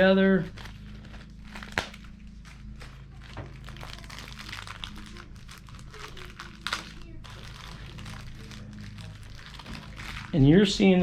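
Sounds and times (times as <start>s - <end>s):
steady low hum: 0.0s - 11.0s
packaging rustling and clicking: 0.5s - 10.4s.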